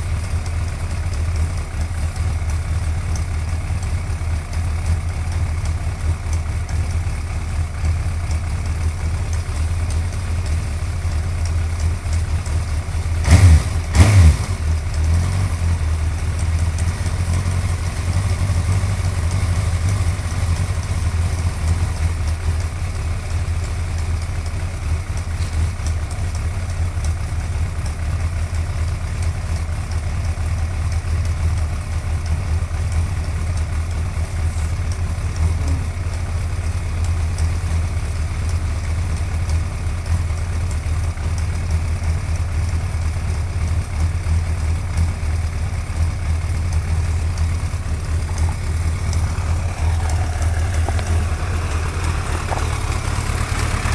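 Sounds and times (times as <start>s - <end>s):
engine ticking: 0.0s - 53.9s
motorcycle engine idling: 0.0s - 53.9s.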